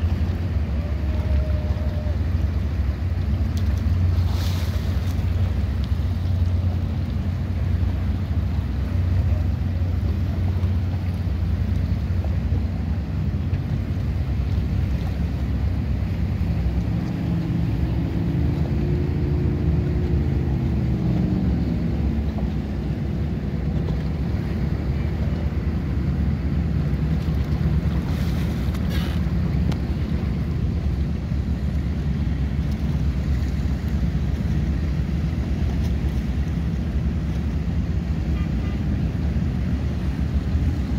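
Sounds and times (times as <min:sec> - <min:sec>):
motorboat engines running: 0:00.0 - 0:40.9
motorboat passing by: 0:00.0 - 0:40.9.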